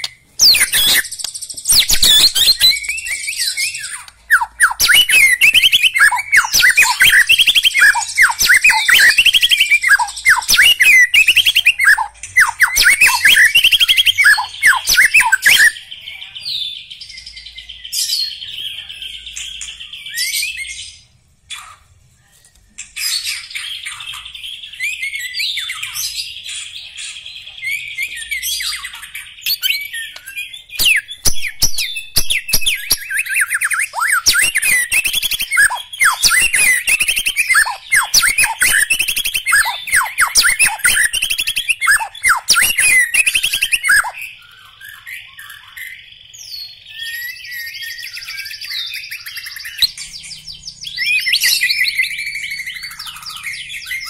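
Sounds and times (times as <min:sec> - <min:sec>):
songbird singing whistled notes: 0:00.0 - 0:21.6, 0:22.8 - 0:54.0.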